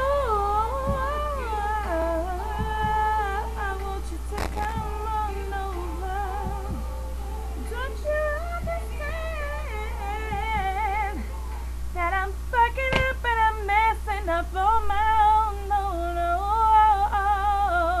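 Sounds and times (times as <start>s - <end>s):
low hum: 0.0s - 18.0s
woman singing: 0.0s - 18.0s.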